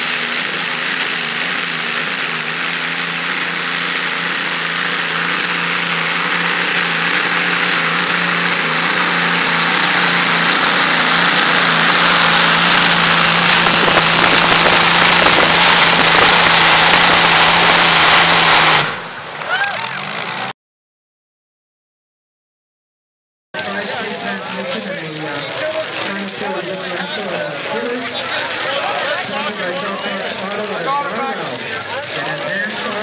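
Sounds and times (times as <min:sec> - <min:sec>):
tractor engine under load: 0:00.0 - 0:20.5, 0:23.6 - 0:33.0.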